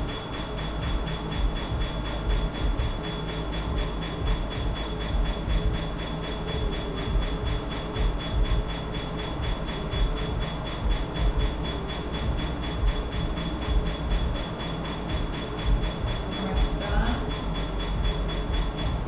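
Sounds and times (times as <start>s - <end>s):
cooling machine air rush: 0.0s - 19.0s.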